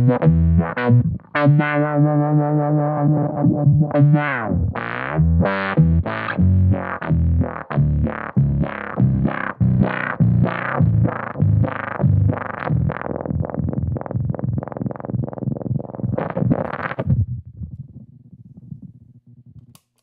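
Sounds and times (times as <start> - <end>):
distorted electric bass with wah: 0.0 - 19.6.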